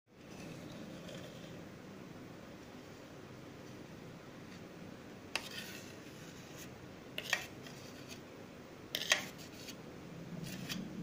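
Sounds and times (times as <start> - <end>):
faint room hum: 0.1 - 11.0.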